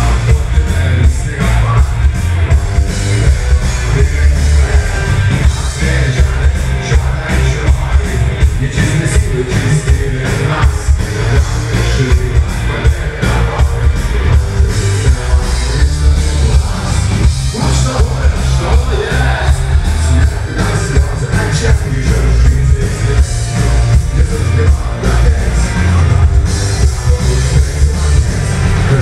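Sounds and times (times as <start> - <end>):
person singing through loudspeakers: 0.0 - 2.1, 3.1 - 29.0
booming bass: 0.0 - 29.0
distorted electric guitar: 0.0 - 29.0
drum kit beating: 0.0 - 29.0.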